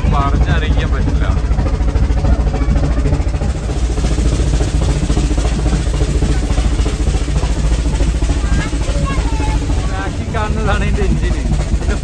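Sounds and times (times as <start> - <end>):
steam train rumbling: 0.0 - 12.0.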